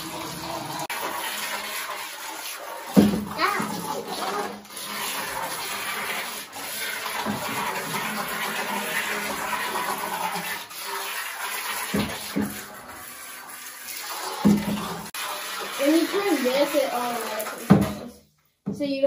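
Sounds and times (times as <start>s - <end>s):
toy boat propellers churning water: 0.0s - 18.2s.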